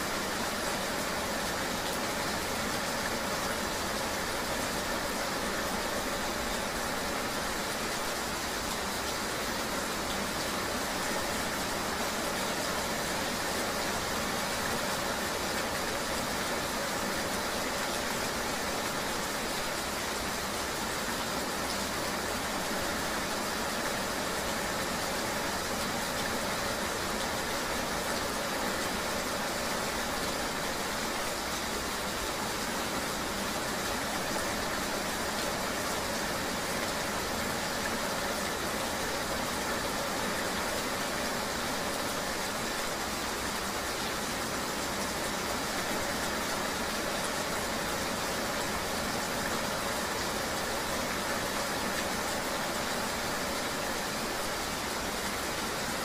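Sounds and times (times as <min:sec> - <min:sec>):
constant hiss: 0:00.0 - 0:56.0.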